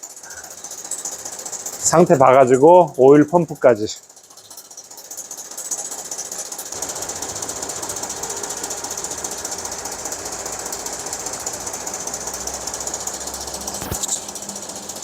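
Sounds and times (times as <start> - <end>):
engine running with ticking rattle: 0.0 - 15.0.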